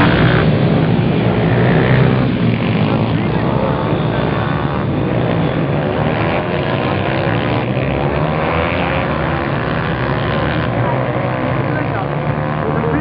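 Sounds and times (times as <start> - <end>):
small motorbike engines revving: 0.0 - 13.0.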